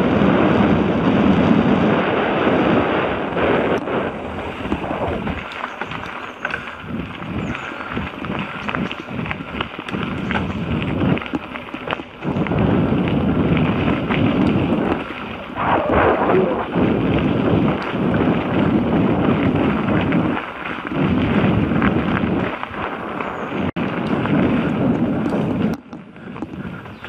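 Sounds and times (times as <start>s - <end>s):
bike tyres on gravel: 0.0s - 27.0s
wind on microphone: 0.0s - 27.0s.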